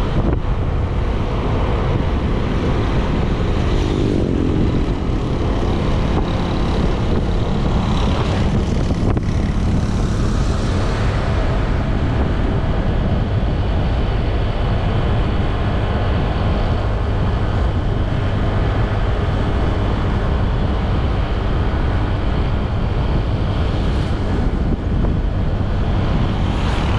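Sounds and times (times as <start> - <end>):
wind rushing over microphone: 0.0 - 26.9.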